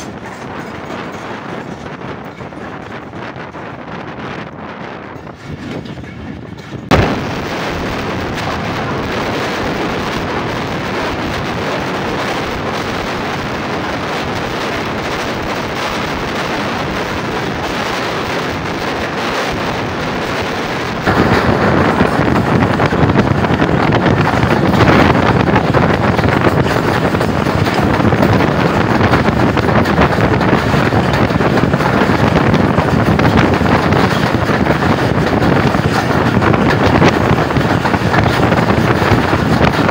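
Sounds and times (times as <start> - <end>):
moving train running noise: 0.0 - 39.9
wind buffeting microphone: 0.0 - 39.9.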